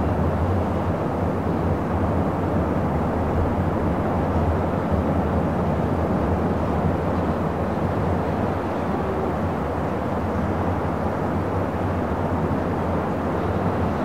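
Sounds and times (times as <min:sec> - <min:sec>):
distant city traffic roar: 0:00.0 - 0:14.0.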